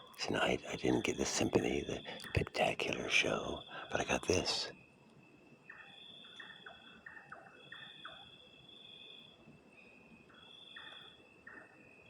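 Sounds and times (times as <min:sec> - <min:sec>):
insects trilling: 0:00.0 - 0:11.6.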